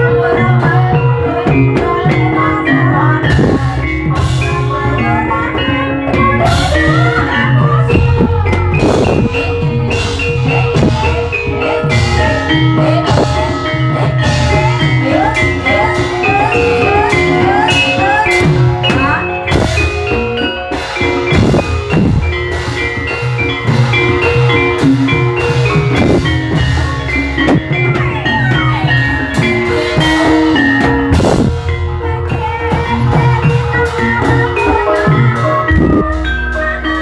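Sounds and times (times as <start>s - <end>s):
steady drum beat: 0.0s - 37.0s.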